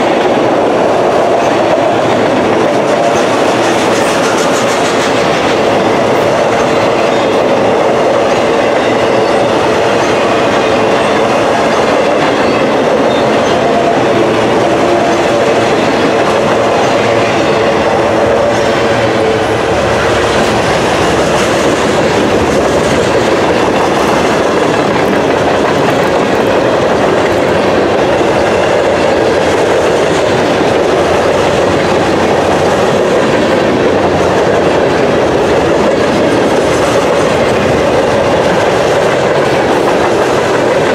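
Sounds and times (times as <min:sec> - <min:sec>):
train wheels clattering on rails: 0:00.0 - 0:40.9.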